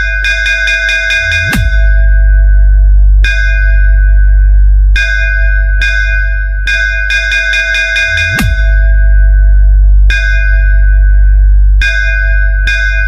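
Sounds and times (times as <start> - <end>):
deep sub-bass: 0.0 - 13.0.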